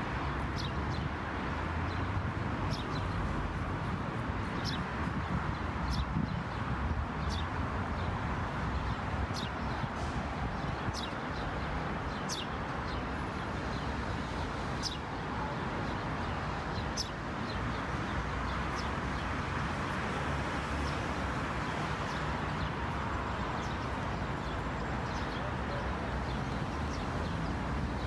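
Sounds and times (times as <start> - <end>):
street traffic hum: 0.0 - 28.0
small birds chirping: 0.2 - 1.2, 1.9 - 3.6, 4.5 - 15.2, 15.8 - 19.5, 21.6 - 28.0.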